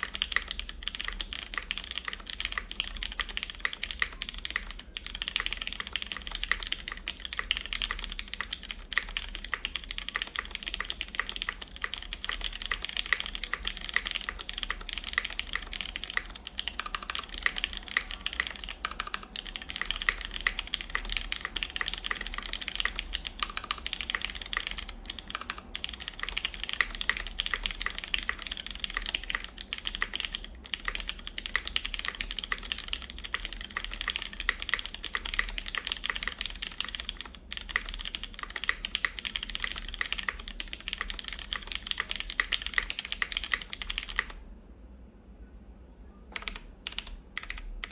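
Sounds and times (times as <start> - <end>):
mechanical keyboard typing: 0.0 - 44.4, 46.3 - 47.9.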